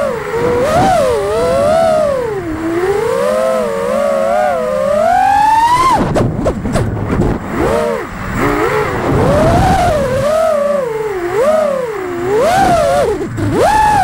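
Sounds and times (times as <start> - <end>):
drone motors whining: 0.0 - 14.0
low rush of wind: 0.0 - 14.0.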